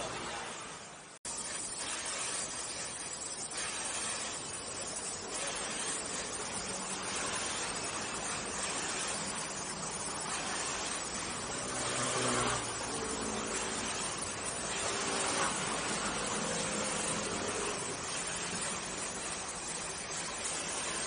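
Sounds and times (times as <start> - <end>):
welding torch flame hissing: 0.0 - 21.0.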